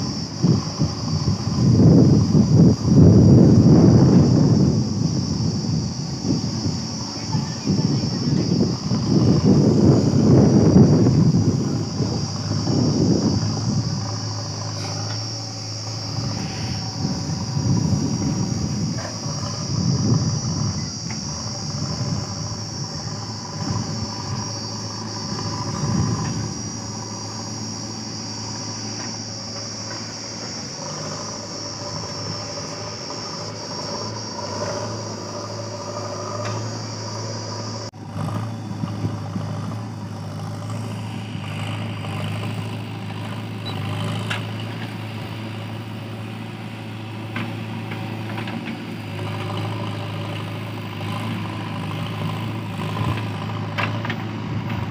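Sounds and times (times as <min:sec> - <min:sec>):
diesel engines idling: 0:00.0 - 0:54.9
high steady hiss: 0:00.0 - 0:54.9.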